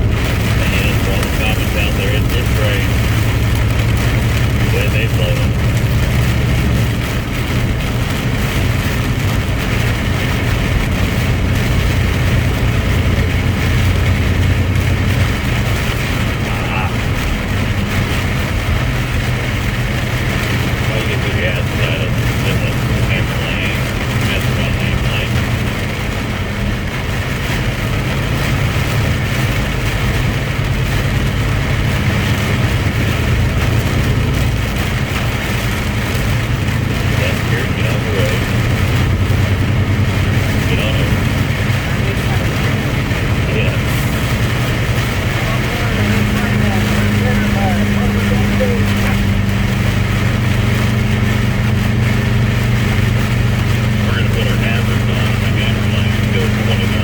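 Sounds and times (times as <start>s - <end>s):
road noise hiss: 0.0s - 57.0s
truck engine drone: 0.0s - 57.0s.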